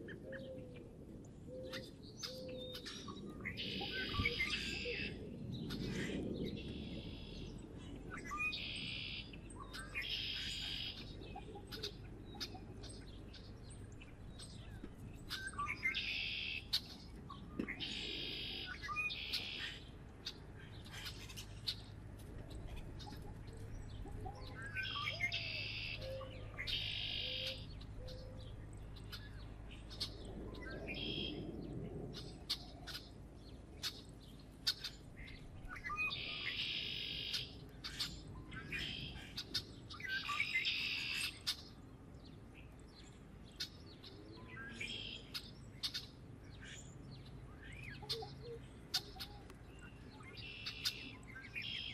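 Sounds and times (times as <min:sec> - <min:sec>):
birds chirping and singing: 0:00.0 - 0:51.9.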